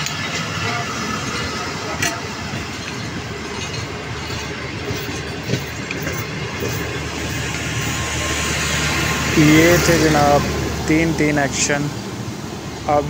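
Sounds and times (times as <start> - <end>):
train coaches rumbling past: 0.0 - 13.0
wheels clacking on rails: 0.0 - 13.0.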